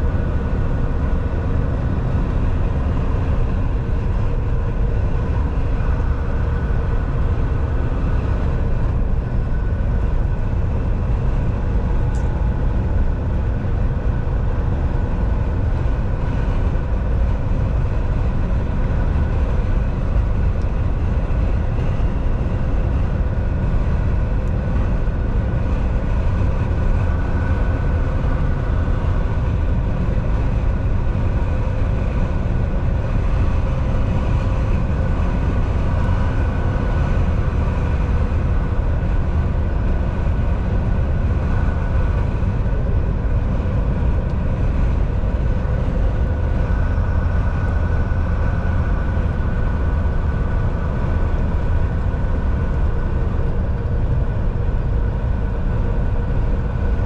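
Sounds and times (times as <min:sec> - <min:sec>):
road and tyre noise: 0:00.0 - 0:57.0
truck engine drone: 0:00.0 - 0:57.0.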